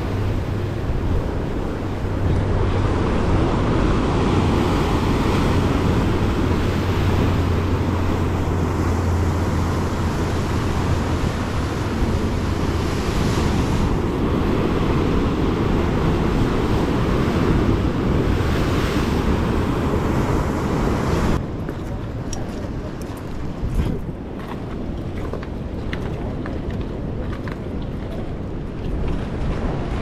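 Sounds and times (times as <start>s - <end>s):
surf breaking against rocks: 0.0s - 30.0s
wind on microphone: 0.0s - 30.0s.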